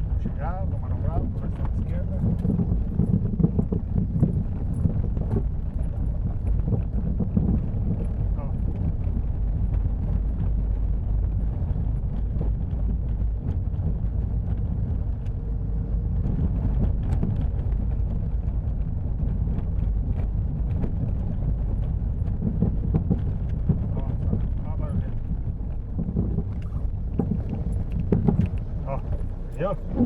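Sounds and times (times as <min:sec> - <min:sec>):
car rolling with low rumble: 0:00.0 - 0:30.0
suspension knocks: 0:00.2 - 0:30.0.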